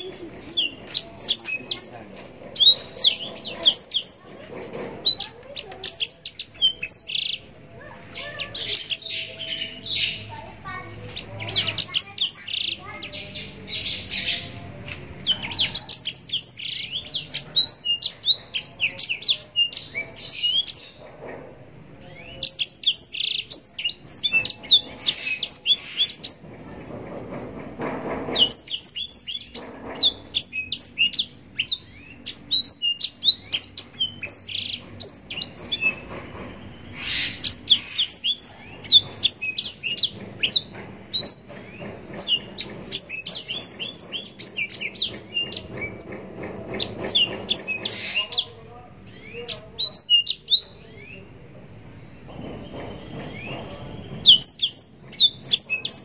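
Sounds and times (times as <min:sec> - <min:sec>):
canary singing high chirps: 0:00.0 - 0:26.6, 0:28.3 - 0:56.0.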